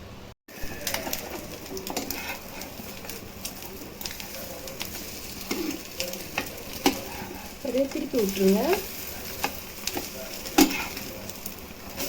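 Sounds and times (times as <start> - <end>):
bread sizzling in a pan: 0.5 - 12.0.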